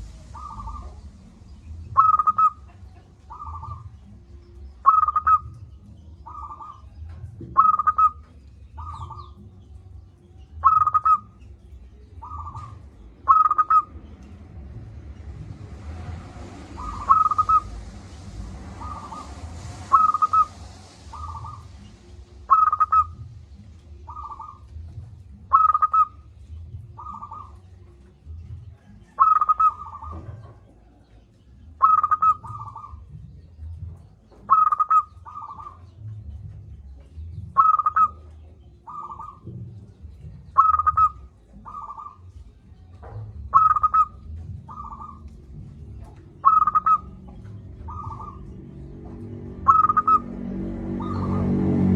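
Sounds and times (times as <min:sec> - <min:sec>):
dove cooing: 0:00.0 - 0:09.6, 0:10.5 - 0:14.2, 0:16.6 - 0:17.9, 0:18.7 - 0:28.0, 0:28.8 - 0:31.0, 0:31.7 - 0:33.3, 0:34.2 - 0:36.1, 0:37.5 - 0:51.9.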